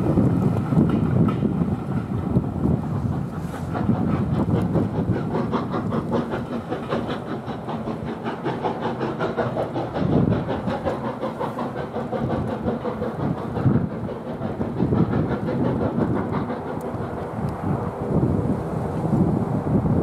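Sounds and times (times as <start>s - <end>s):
steam train running: 0.0s - 20.0s.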